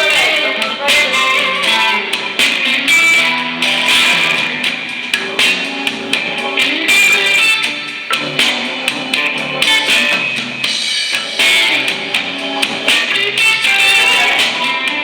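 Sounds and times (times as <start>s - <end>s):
music with guitar and drums: 0.0s - 15.0s.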